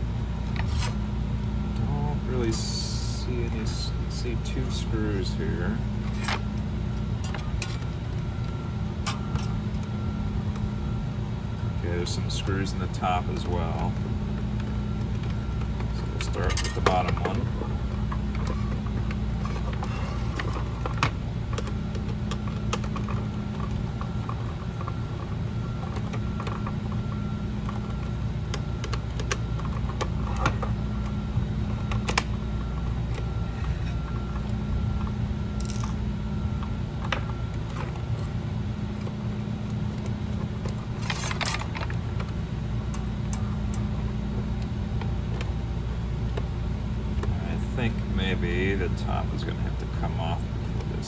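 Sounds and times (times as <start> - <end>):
low background hum: 0.0 - 51.0.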